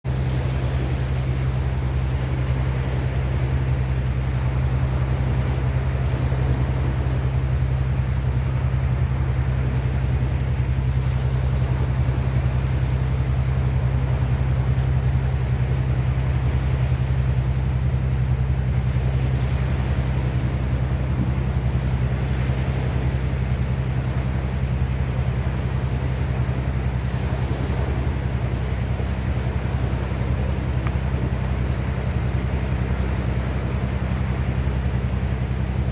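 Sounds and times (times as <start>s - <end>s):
low engine drone: 0.0s - 35.9s
sea water rushing: 0.0s - 35.9s.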